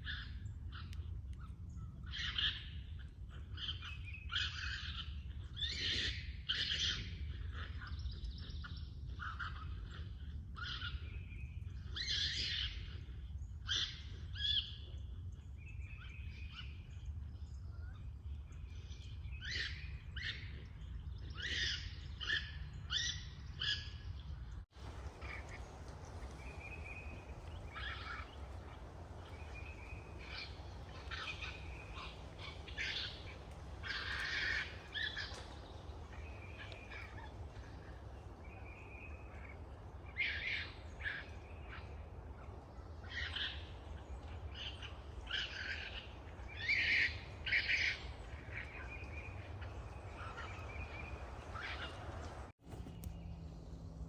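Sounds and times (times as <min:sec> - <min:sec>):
low steady rumble: 0:00.0 - 0:54.0.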